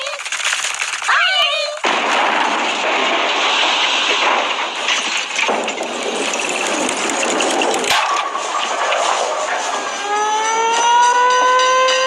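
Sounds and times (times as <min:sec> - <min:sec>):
old car engine rushing: 0:00.0 - 0:10.8
clattering: 0:00.0 - 0:12.0.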